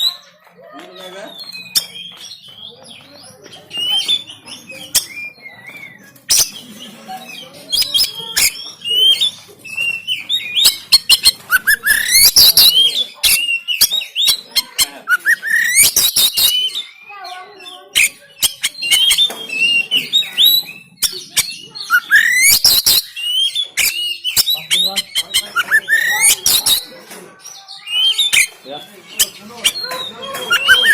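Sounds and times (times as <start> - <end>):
bird singing whistles and clicks: 1.3 - 6.6, 7.7 - 16.9, 17.9 - 26.9, 27.8 - 30.9.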